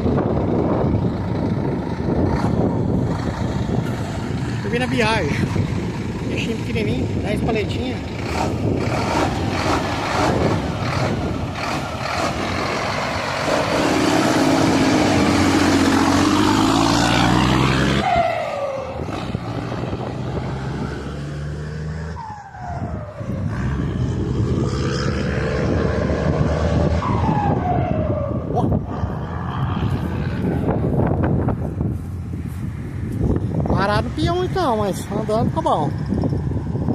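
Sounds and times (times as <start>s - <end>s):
truck engine pulling under load: 0.0s - 7.2s, 7.9s - 35.1s.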